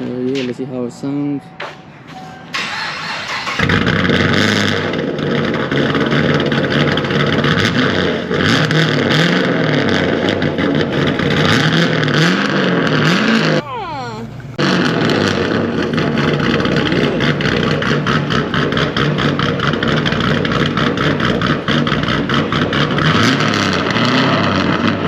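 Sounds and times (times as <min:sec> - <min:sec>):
car engine starting: 0:02.0 - 0:25.0
car engine revving: 0:02.6 - 0:13.6, 0:14.3 - 0:25.0.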